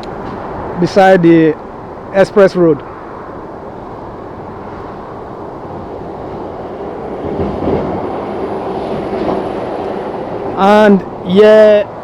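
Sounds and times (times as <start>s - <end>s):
heavy vehicle engine hum: 0.0s - 12.0s
highway traffic rumble: 0.0s - 12.0s.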